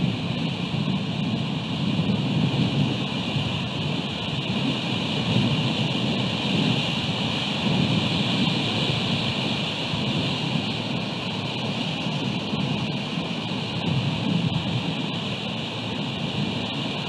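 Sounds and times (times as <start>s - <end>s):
rain: 0.0s - 17.0s
wind on microphone: 0.0s - 17.0s.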